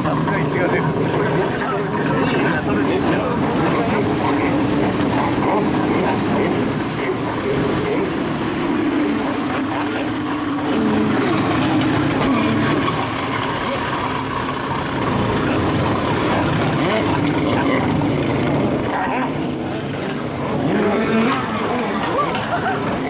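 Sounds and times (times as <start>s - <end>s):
jet ski engines revving: 0.0s - 23.0s
water spray rushing: 2.8s - 23.0s.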